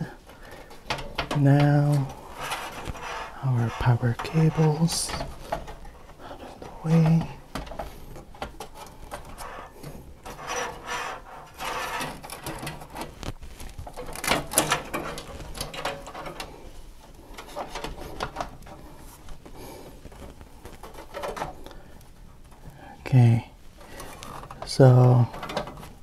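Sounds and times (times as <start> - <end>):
rubbing and scraping in computer case: 0.0 - 26.0.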